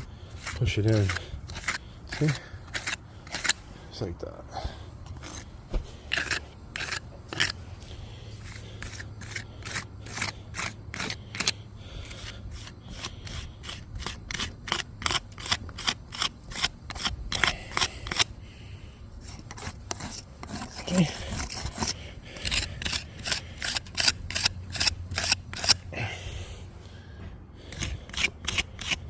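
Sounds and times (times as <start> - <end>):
jointing tool scraping mortar: 0.0 - 4.0, 5.0 - 18.4, 19.2 - 26.2, 27.6 - 29.0.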